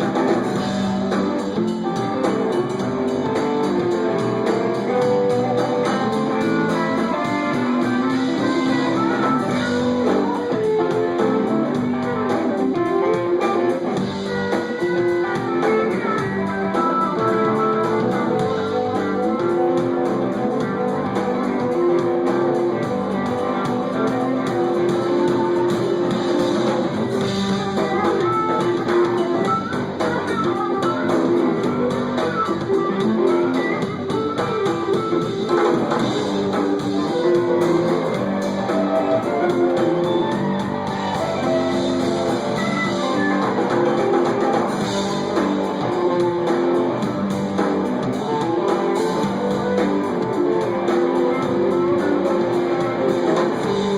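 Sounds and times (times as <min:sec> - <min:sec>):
lead guitar: 0:00.0 - 0:53.9
live band playing: 0:00.0 - 0:53.9.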